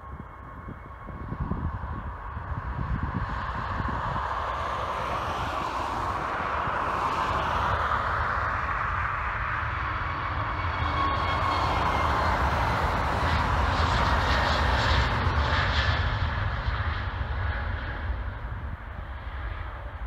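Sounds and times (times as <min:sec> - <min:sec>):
jet engines at takeoff: 0:00.0 - 0:20.0.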